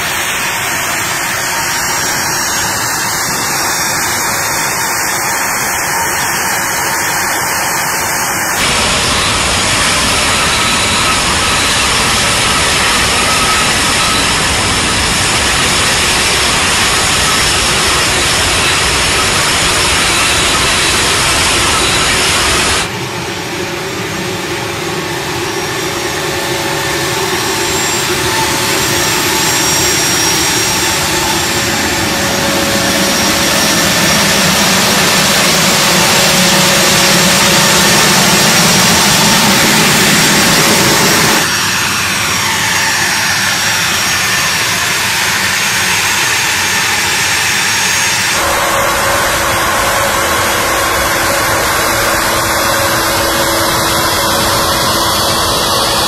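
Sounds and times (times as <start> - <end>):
jet engines roaring with turbine whine: 0.0 - 56.0.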